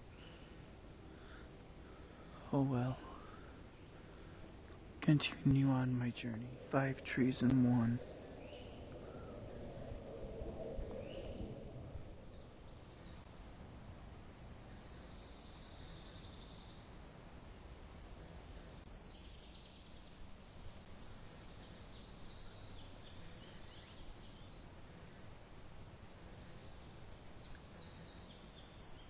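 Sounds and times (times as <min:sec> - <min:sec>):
birdsong trills: 0:00.0 - 0:09.6, 0:10.9 - 0:17.2, 0:18.1 - 0:24.8, 0:26.3 - 0:29.0
low outdoor rumble: 0:00.0 - 0:29.0.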